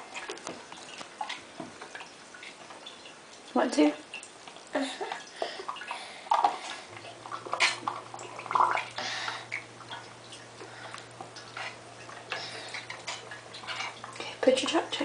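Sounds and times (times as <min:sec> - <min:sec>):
bath water splashing: 0:00.0 - 0:15.0
low steady hum: 0:00.0 - 0:15.0.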